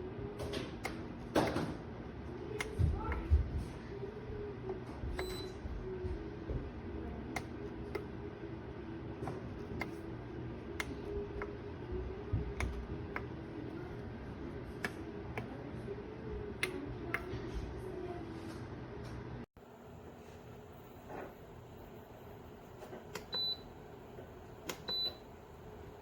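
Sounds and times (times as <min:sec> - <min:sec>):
space heater fan hum: 0:00.0 - 0:26.0.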